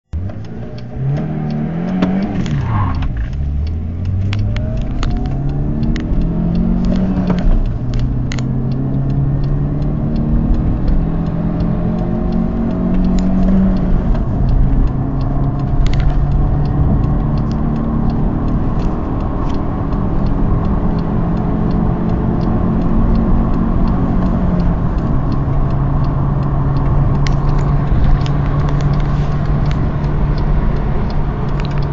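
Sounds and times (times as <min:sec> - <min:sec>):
car engine accelerating through gears: 0:00.1 - 0:31.9.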